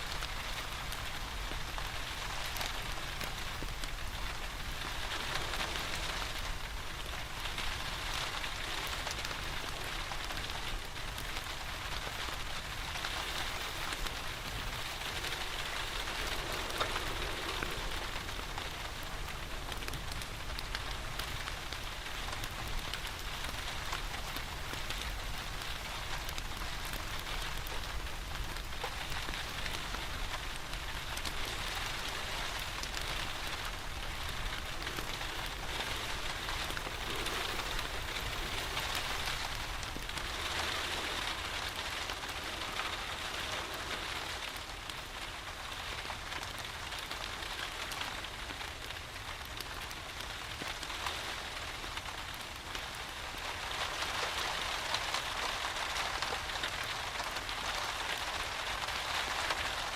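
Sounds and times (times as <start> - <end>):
rain falling: 0.0 - 59.9
wood fire crackling: 0.0 - 59.9.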